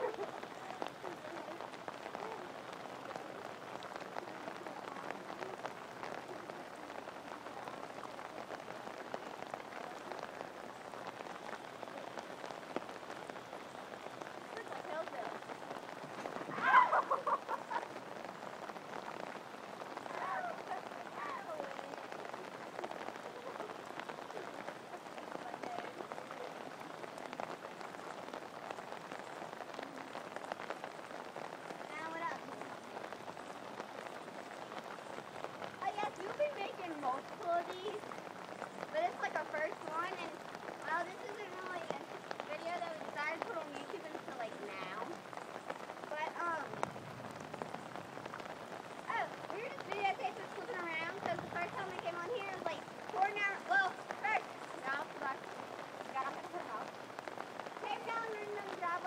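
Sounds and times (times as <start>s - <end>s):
water droplets pattering: 0.0s - 59.0s.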